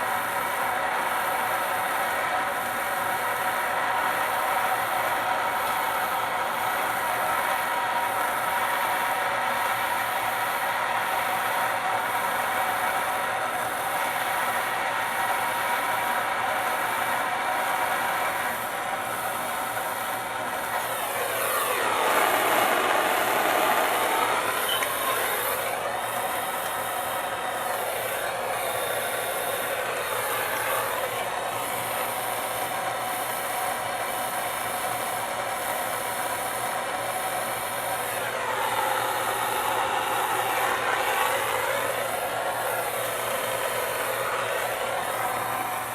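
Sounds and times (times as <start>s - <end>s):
gas torch flame hissing: 0.0s - 45.9s.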